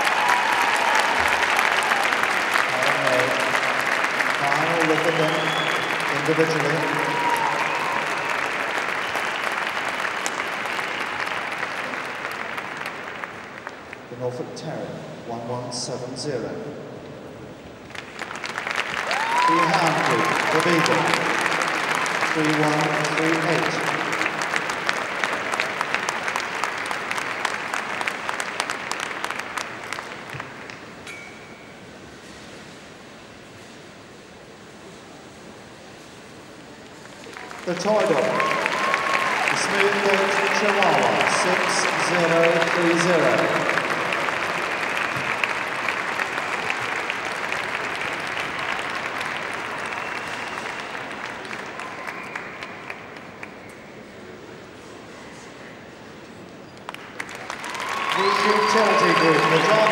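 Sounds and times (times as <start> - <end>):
audience applauding: 0.0 - 14.4, 17.8 - 31.0, 36.1 - 54.8, 56.6 - 59.9
low hum of hall: 0.0 - 59.9.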